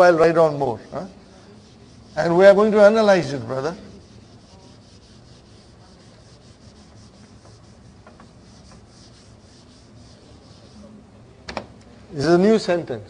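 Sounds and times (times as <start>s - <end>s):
eraser wiping a whiteboard: 0.0s - 11.0s.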